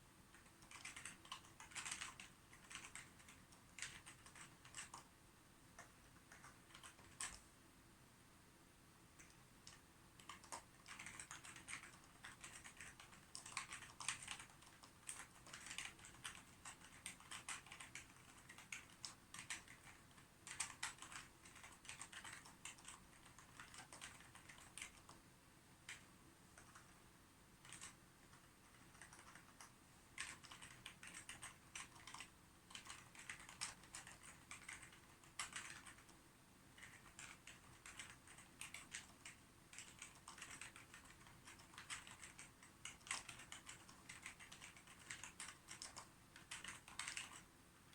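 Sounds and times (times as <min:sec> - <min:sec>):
computer keyboard typing: 0:00.3 - 0:05.1, 0:05.8 - 0:07.5, 0:09.2 - 0:25.2, 0:25.8 - 0:27.0, 0:27.6 - 0:47.9.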